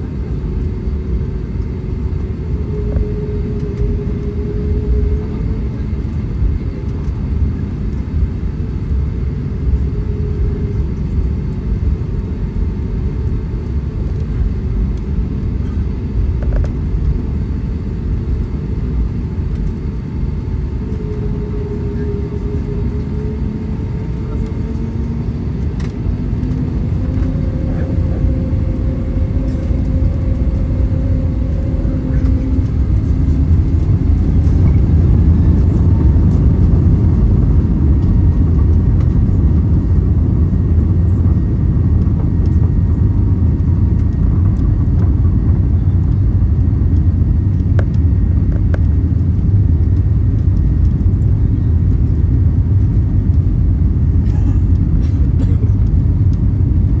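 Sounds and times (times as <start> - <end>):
aircraft engines rumbling: 0.0 - 57.0
humming engine tones: 0.0 - 57.0.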